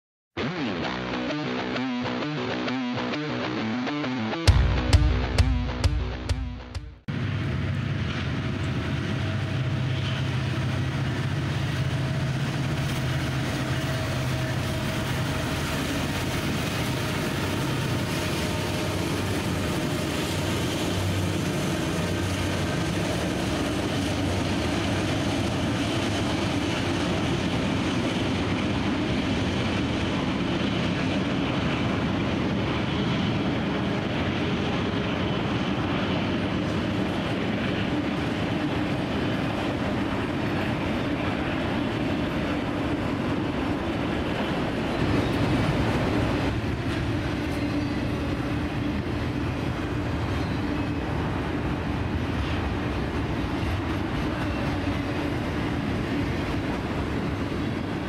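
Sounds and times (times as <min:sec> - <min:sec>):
locomotive engine rumble: 0:04.5 - 0:58.0
train cars rolling: 0:07.1 - 0:58.0.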